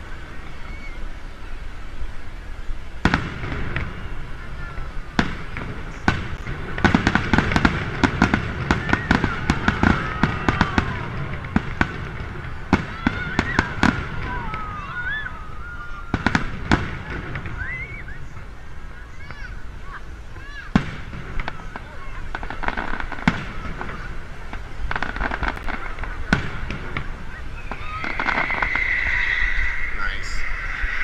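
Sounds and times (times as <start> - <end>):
firework shells bursting: 3.0 - 18.5, 20.7 - 30.4.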